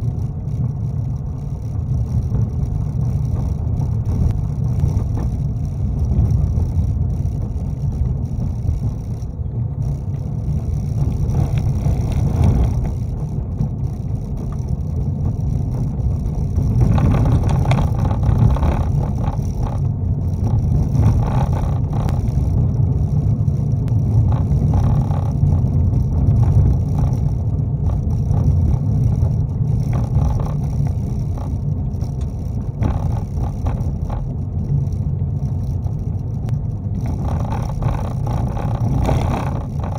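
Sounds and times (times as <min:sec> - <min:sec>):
car interior road rumble: 0:00.0 - 0:39.9
tyres on gravel: 0:00.0 - 0:39.9.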